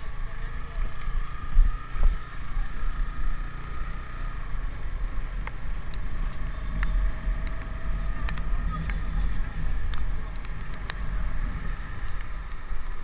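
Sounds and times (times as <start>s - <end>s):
motorcycle running: 0.0s - 13.0s.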